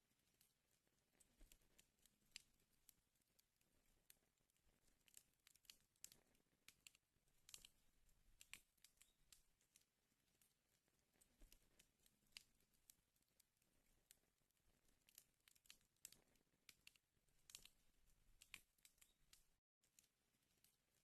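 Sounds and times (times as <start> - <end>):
wood fire crackling: 0.1 - 21.0
sharp pops and snaps: 1.1 - 21.0.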